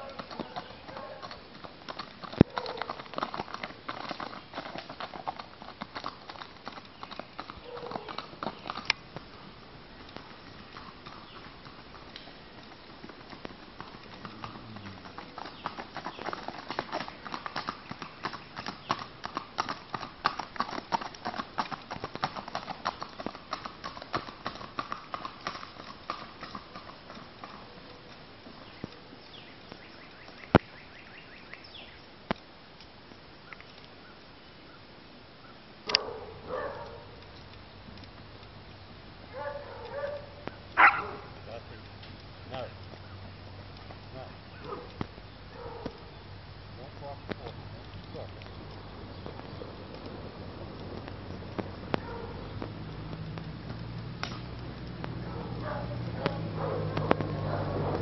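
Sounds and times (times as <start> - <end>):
horse hooves clip-clopping: 0.0 - 58.0.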